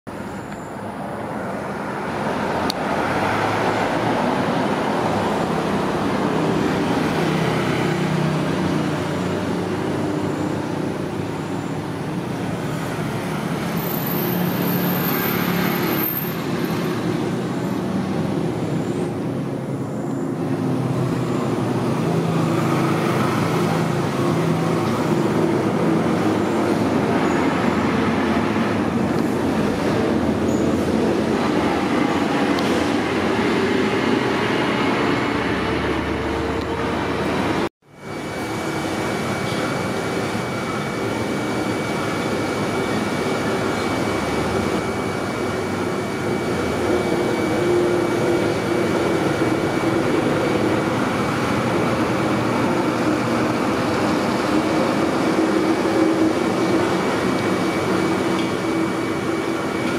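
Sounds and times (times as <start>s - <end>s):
diesel trucks driving past: 0.1s - 59.9s
tyre and road noise: 0.1s - 59.9s.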